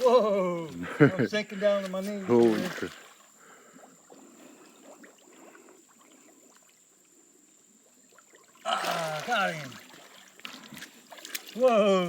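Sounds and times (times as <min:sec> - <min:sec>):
wading through water and mud: 0:00.0 - 0:12.0
small drips and splashes: 0:01.8 - 0:12.0.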